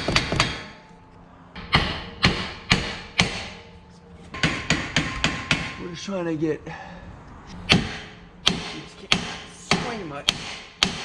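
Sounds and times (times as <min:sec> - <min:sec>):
hammer striking steel: 0:00.0 - 0:01.0, 0:01.6 - 0:06.0, 0:07.5 - 0:11.0.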